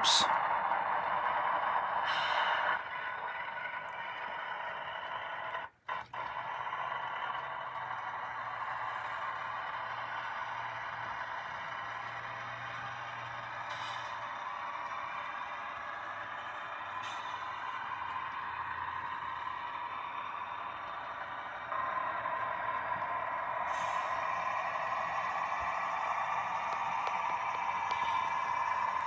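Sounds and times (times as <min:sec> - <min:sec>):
diesel engine drone: 0:00.0 - 0:29.0
model train rolling on track: 0:00.0 - 0:29.0.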